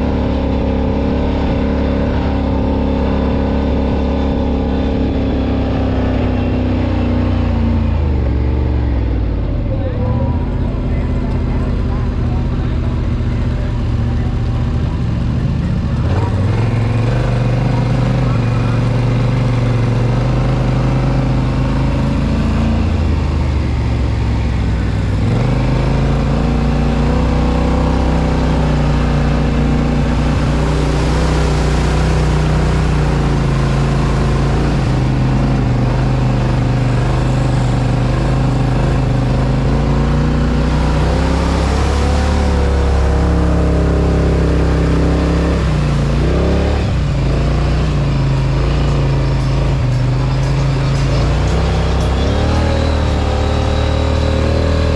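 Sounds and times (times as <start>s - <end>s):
off-road vehicle engine running: 0.0s - 54.9s.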